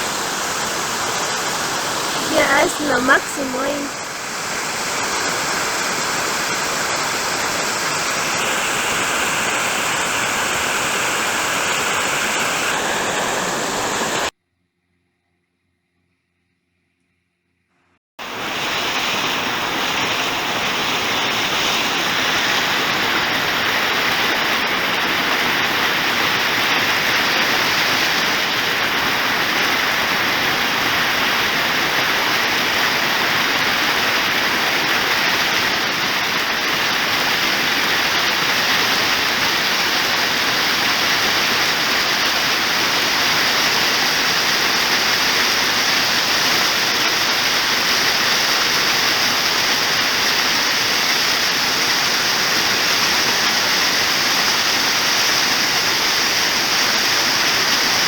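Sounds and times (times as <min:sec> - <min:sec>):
waterfall rushing: 0:06.7 - 0:14.3, 0:18.2 - 0:58.0.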